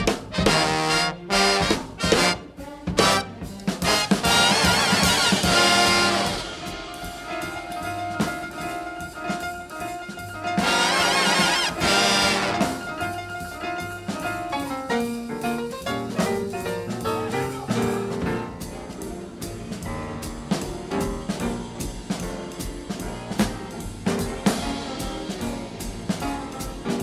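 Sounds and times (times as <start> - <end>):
brass horns playing jazz: 0.0 - 14.6, 17.8 - 27.0
drum kit beat: 0.0 - 27.0.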